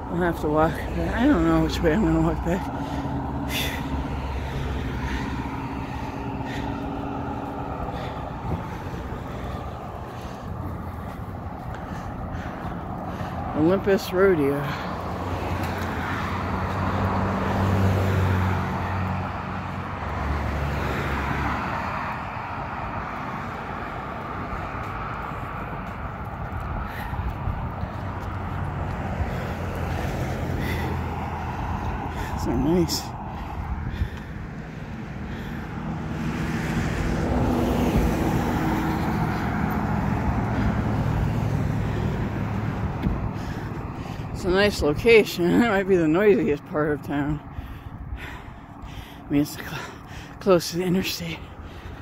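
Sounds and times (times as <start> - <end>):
road traffic passing: 0.0 - 52.0
vehicle engine hum: 0.0 - 52.0.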